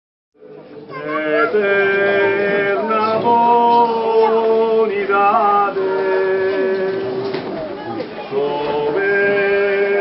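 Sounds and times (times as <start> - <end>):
men singing chant-like song: 0.9 - 7.4, 8.3 - 10.0.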